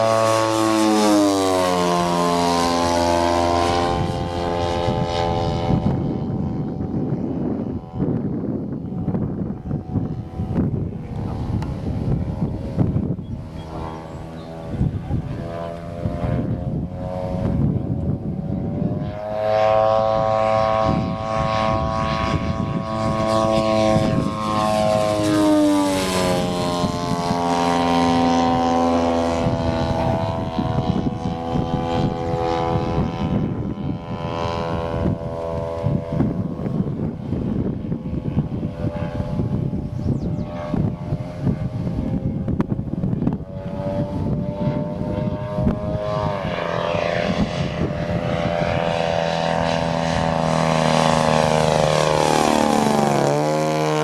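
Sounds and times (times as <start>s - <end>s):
model plane engine and propeller: 0.0s - 54.0s.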